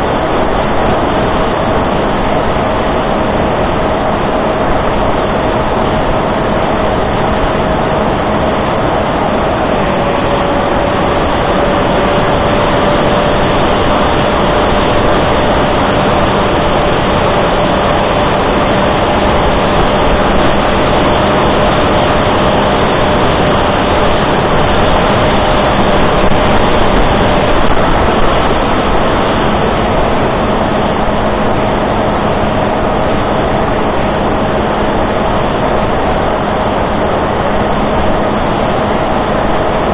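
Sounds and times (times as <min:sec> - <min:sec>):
electric motor and propeller hum: 0:00.0 - 0:39.9
rush of air: 0:00.0 - 0:39.9.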